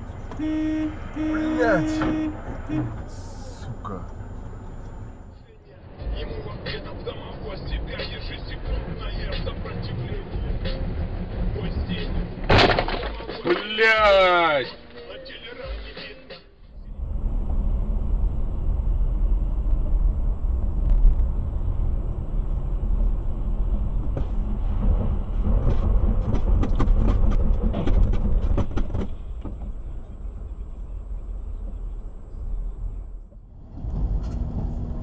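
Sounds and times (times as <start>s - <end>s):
car interior road rumble: 0.0s - 14.3s, 16.6s - 35.0s.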